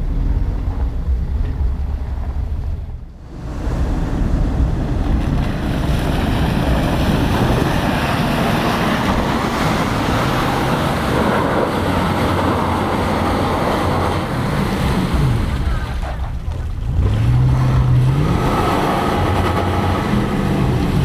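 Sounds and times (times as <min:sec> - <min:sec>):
suv engine working hard: 0:00.0 - 0:21.0
wind buffeting microphone: 0:00.0 - 0:21.0
tyres churning and splashing mud: 0:03.2 - 0:21.0.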